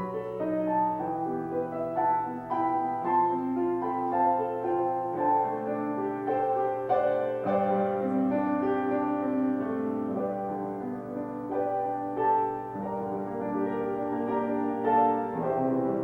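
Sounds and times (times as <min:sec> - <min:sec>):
slow gentle keyboard instrumental: 0:00.0 - 0:16.0.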